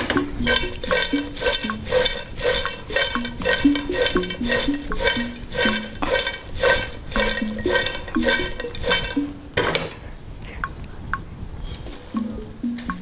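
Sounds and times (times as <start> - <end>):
background music with steady beat: 0.0 - 13.0
popcorn pot being shaken: 0.0 - 13.0.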